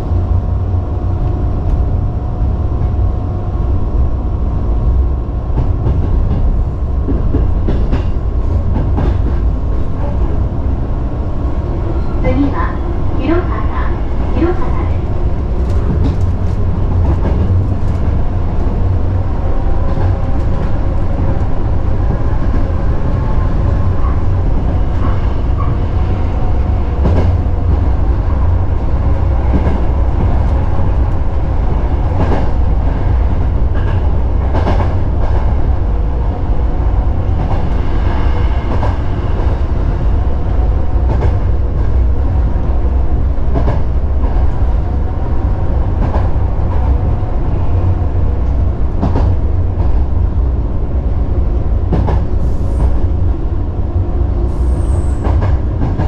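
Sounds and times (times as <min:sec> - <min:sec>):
train running gear rumble: 0:00.0 - 0:56.0.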